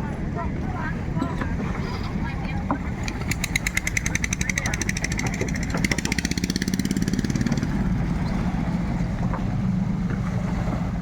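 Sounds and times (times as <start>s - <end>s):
boat engine pulsing: 0.0s - 11.0s.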